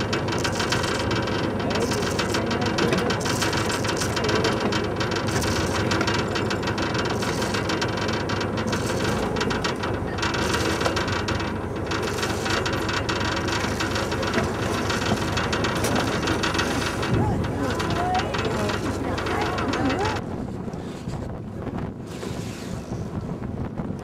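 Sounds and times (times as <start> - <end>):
winch ratchet clicking: 0.0 - 20.2.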